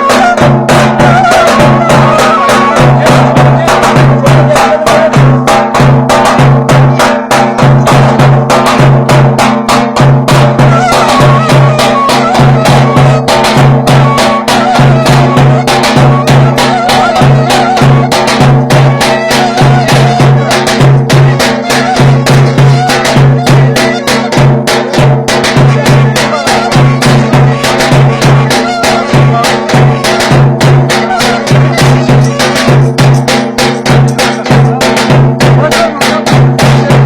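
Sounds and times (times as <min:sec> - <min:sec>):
wavering folk melody: 0:00.0 - 0:05.6, 0:10.6 - 0:36.1
drum beating quick rhythm: 0:00.0 - 0:37.0.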